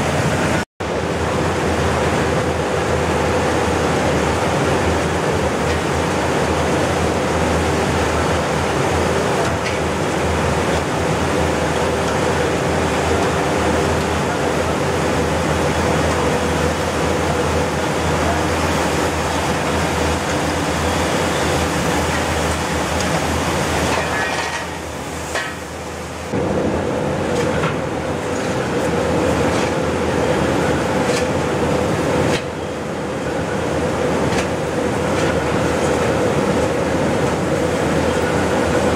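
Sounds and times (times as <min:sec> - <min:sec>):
blower rushing air with hum: 0:00.0 - 0:38.9.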